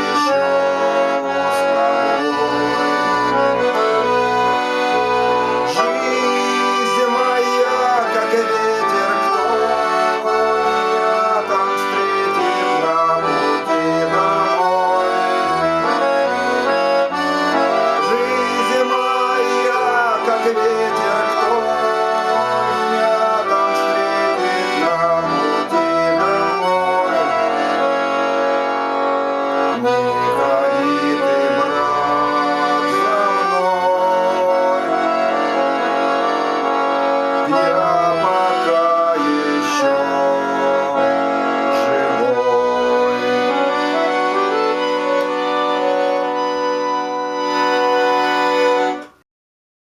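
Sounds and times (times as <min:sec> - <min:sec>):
accordion playing folk tune: 0:00.0 - 0:49.2.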